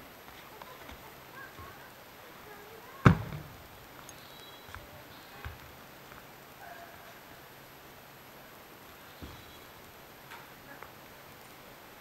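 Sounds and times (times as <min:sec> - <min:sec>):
room tone hiss: 0:00.0 - 0:12.0.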